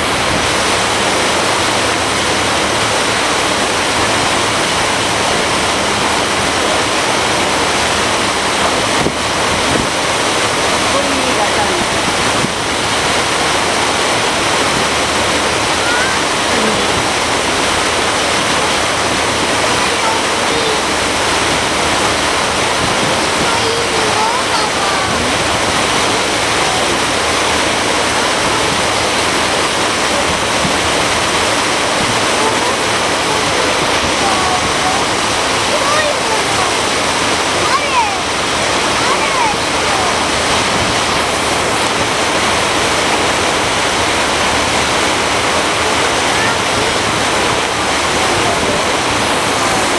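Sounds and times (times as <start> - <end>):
water rushing along boat hull: 0.0 - 49.9.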